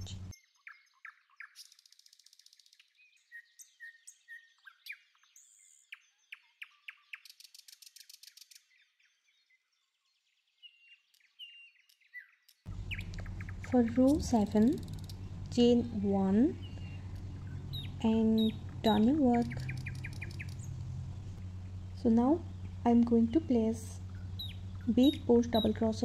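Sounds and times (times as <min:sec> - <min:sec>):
small birds chirping faintly: 0:00.0 - 0:26.0.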